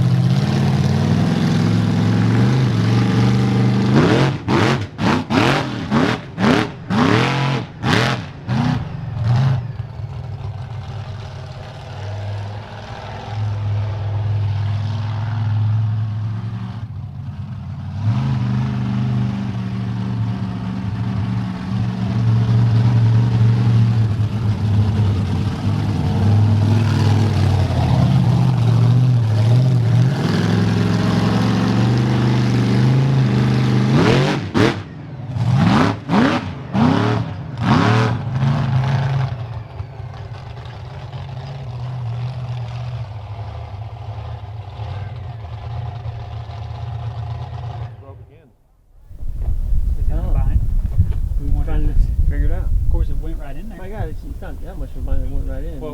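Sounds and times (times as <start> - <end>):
truck engine revving and idling: 0.0 - 48.2, 49.0 - 55.9.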